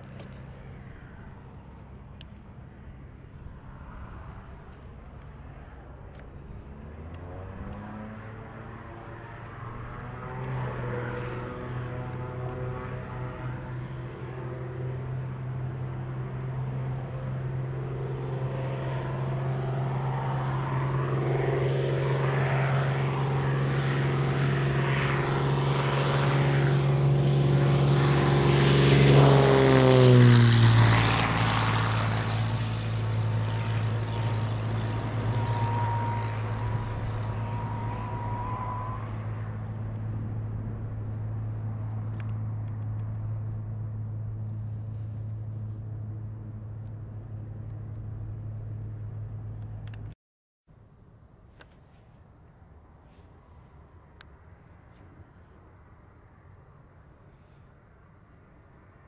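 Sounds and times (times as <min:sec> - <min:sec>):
propeller aircraft taking off: 0:00.0 - 0:50.2, 0:51.5 - 0:59.0.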